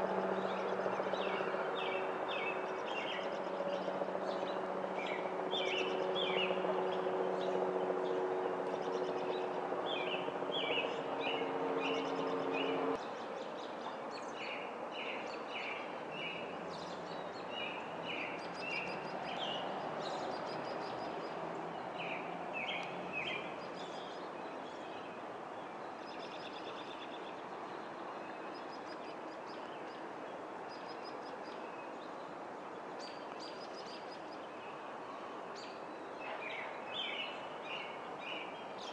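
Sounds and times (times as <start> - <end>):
outdoor background noise: 0.0 - 38.9.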